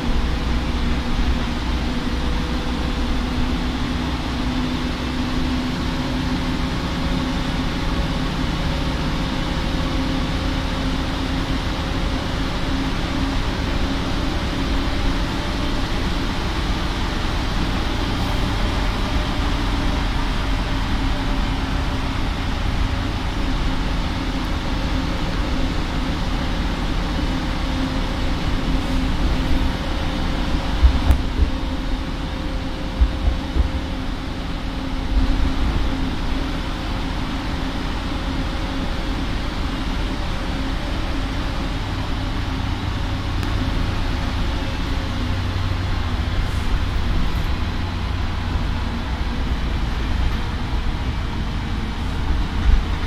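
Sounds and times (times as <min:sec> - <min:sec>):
bus engine drone with whine: 0:00.0 - 0:53.0
low road rumble: 0:00.0 - 0:53.0.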